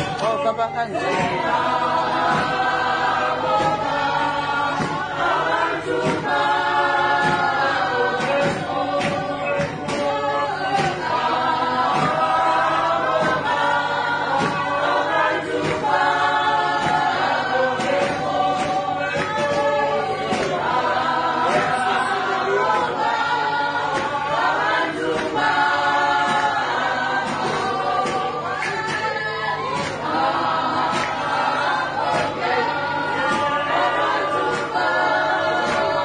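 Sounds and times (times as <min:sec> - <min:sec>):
group singing gospel hymn: 0:00.0 - 0:36.0.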